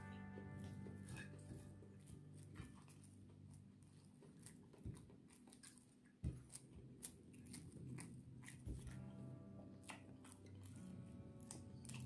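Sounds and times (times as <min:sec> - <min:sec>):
chewing rice: 0:00.0 - 0:12.0.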